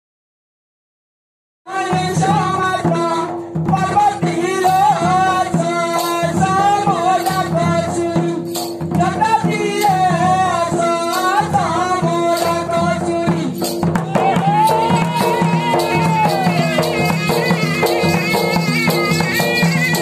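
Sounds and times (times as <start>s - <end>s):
person singing through microphone: 1.7s - 18.2s
drum: 1.7s - 20.0s
jingling percussion: 1.8s - 20.0s.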